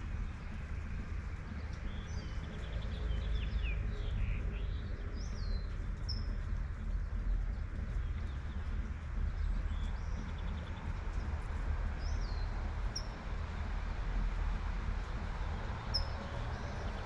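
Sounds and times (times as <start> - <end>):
city traffic rumble: 0.0 - 17.0
light steady rain: 0.0 - 17.0.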